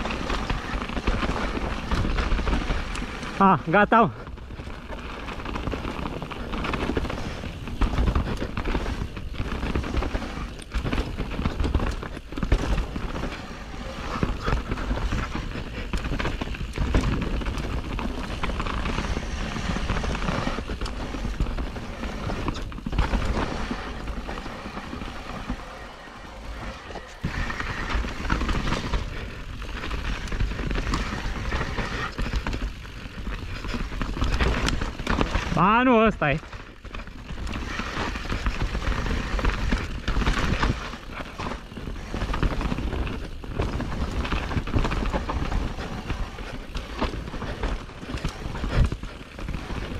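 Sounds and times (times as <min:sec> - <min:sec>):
bike knocking and rattling: 0:00.0 - 0:49.9
tyres rolling over dirt and rocks: 0:00.0 - 0:49.9.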